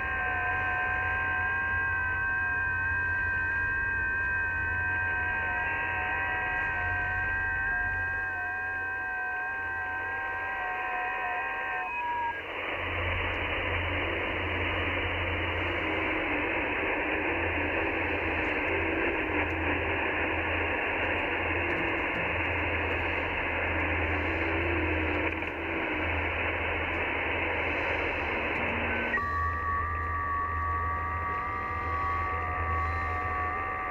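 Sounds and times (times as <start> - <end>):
low mains hum: 0.0 - 33.9
radio band noise hiss: 0.0 - 33.9
stepping digital radio tones: 0.0 - 33.9.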